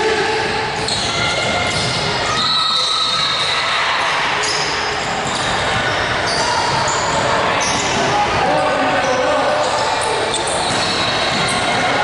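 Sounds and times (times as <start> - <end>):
sneakers squeaking: 0.4 - 12.0.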